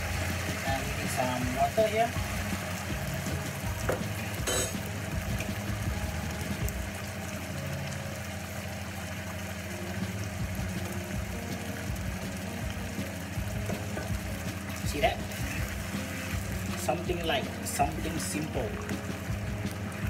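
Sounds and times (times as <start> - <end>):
pot of pasta boiling: 0.0 - 20.0
sauce simmering: 0.0 - 20.0.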